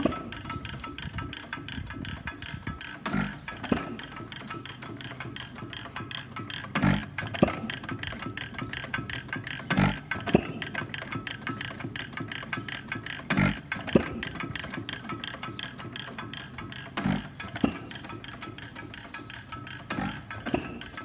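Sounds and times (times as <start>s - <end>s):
engine firing thump: 0.0s - 21.0s
sharp engine click: 0.0s - 21.0s
valve gear clatter: 0.0s - 21.0s.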